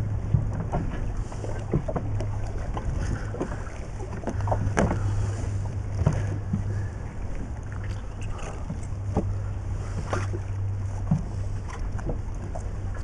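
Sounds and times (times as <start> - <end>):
low hum: 0.0 - 13.0
wind and sea rushing: 0.0 - 13.0.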